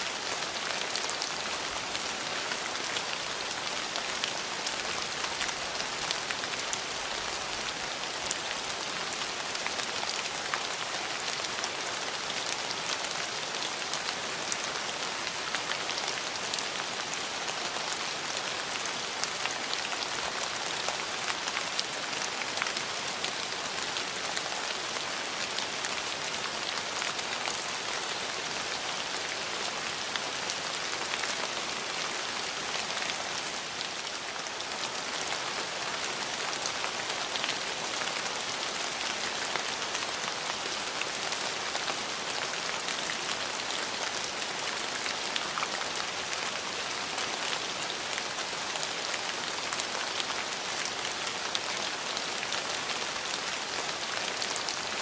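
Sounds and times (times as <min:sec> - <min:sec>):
rain on hard surfaces: 0:00.0 - 0:55.0.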